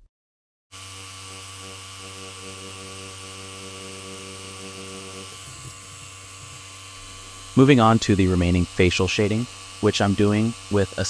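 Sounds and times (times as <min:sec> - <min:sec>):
tattoo machine humming: 0:00.7 - 0:11.0.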